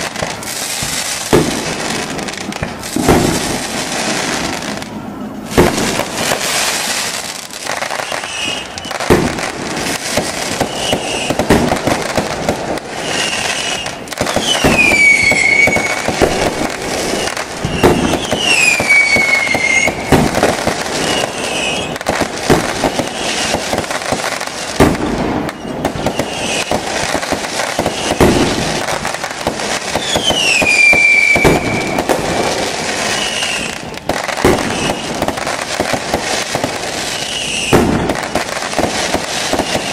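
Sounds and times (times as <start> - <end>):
falling firework whistle: 0.0 - 39.9
fireworks bangs: 0.0 - 39.9
fireworks crackling: 0.0 - 39.9.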